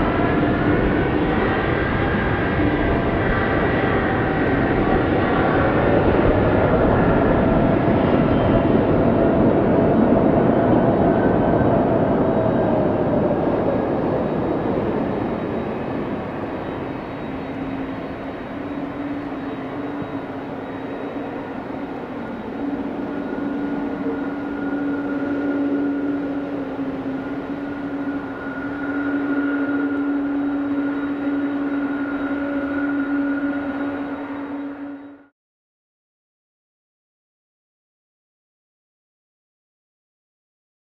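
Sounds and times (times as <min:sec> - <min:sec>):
engine whine gliding down: 0:00.0 - 0:35.3
jet engines roaring: 0:00.0 - 0:35.3.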